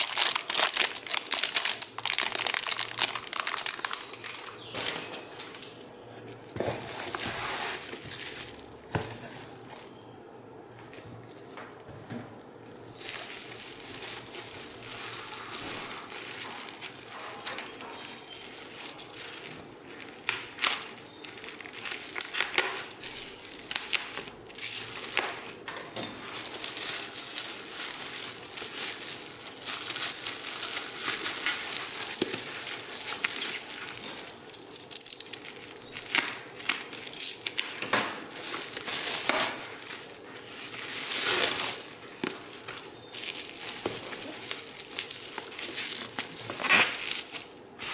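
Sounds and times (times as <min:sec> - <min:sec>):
bubble wrap crinkling and crackling: 0:00.0 - 0:10.0, 0:12.7 - 0:47.9.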